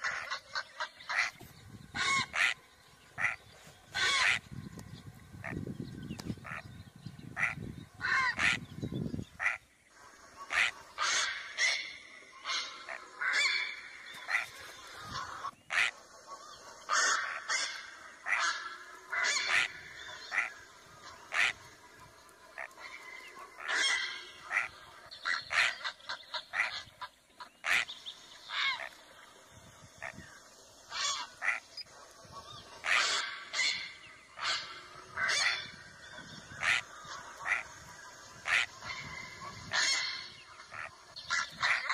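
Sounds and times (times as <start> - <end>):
heron calling: 0.0 - 41.9.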